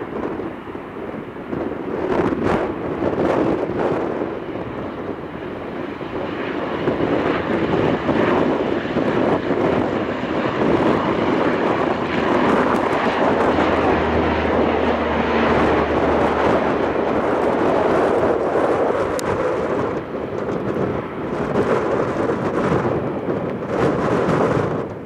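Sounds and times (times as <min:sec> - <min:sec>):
low propeller hum: 0:00.0 - 0:25.0
turboprop engines at takeoff: 0:00.0 - 0:25.0.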